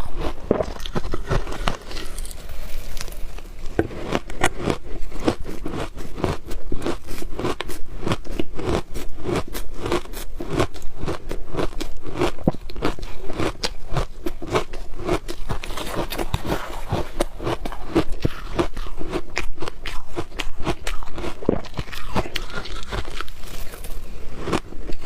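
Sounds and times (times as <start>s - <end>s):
shaved ice being chewed: 0.0s - 25.0s.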